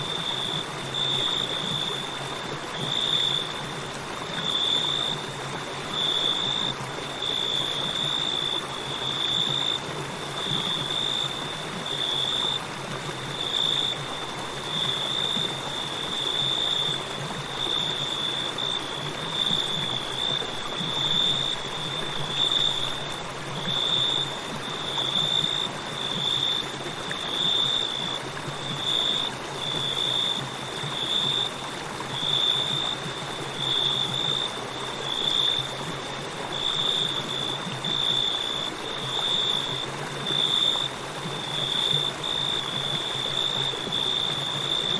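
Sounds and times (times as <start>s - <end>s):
crickets chirping: 0.0s - 44.9s
river flowing: 0.0s - 44.9s.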